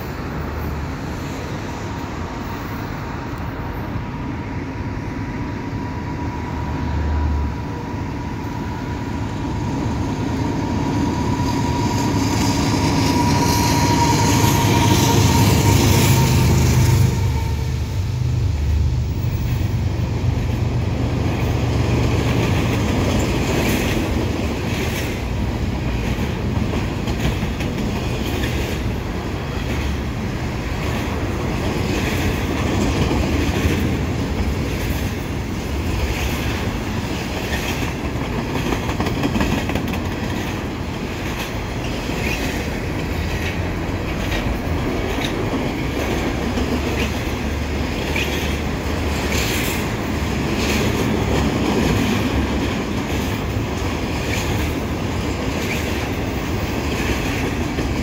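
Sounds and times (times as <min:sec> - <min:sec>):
diesel locomotive engines whining: 0:00.0 - 0:58.0
train cars rolling: 0:00.0 - 0:58.0.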